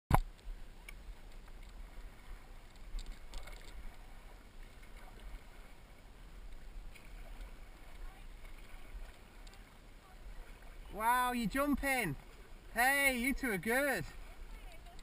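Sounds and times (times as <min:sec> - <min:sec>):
paddle blades dipping in water: 0:00.1 - 0:15.0
water lapping: 0:00.3 - 0:15.0.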